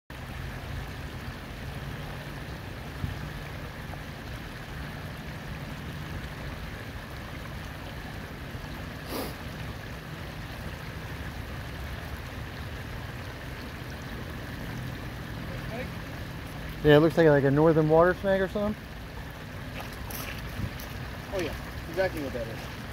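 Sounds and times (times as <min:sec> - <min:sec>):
water flowing over rocks: 0:00.1 - 0:22.9.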